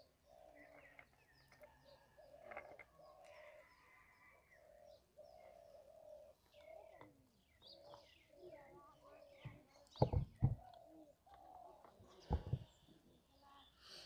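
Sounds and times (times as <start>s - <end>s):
dove cooing: 0.0s - 1.1s, 2.1s - 12.8s.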